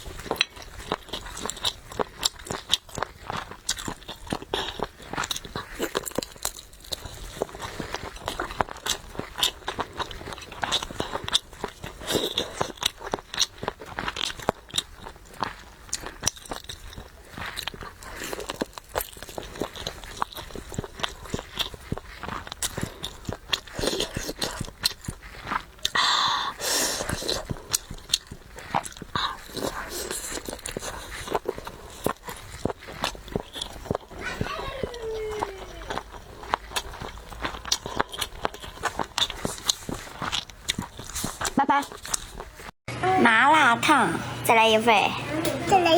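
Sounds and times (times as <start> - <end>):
crunching crisp food: 0.0 - 42.7.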